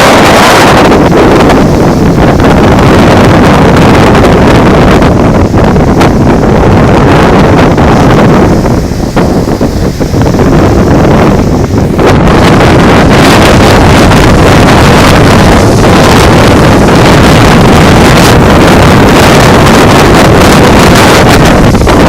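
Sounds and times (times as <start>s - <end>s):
wind blasting microphone: 0.0s - 22.0s.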